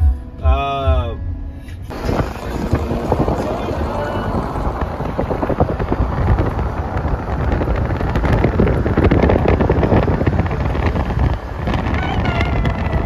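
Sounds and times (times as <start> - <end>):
vehicle road and engine noise: 0.0 - 13.0
wind buffeting microphone: 1.9 - 13.0.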